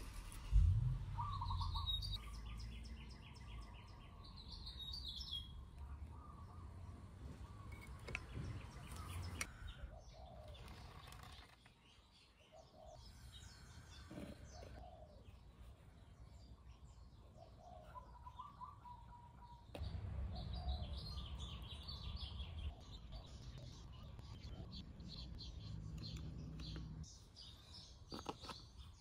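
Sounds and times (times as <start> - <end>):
birds chirping faintly: 0.0 - 29.0.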